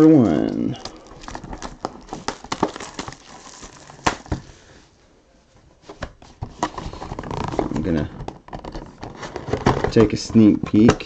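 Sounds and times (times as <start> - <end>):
hands handling cardboard box: 0.2 - 4.8, 5.6 - 11.0.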